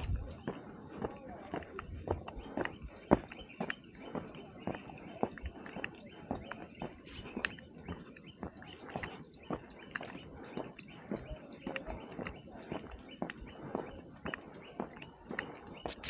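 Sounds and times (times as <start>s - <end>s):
footsteps on ground: 0.0s - 16.0s.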